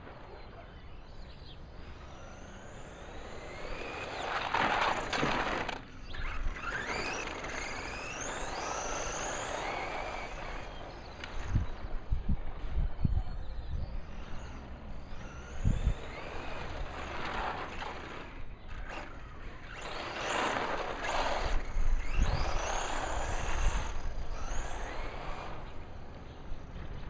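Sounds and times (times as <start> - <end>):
electric motor whine: 0.0 - 27.0
tires scrubbing over ground: 1.9 - 11.9, 14.1 - 25.8.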